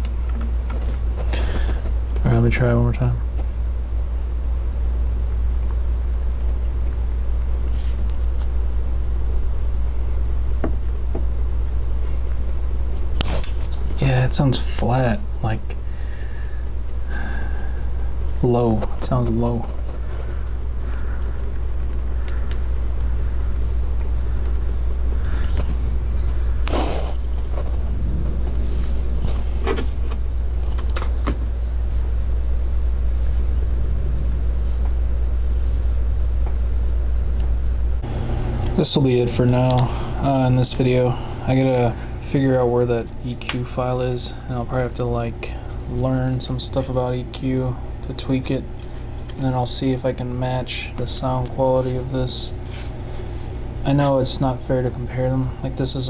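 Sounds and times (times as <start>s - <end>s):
low room rumble: 0.0s - 56.0s
steady low hum: 0.0s - 56.0s.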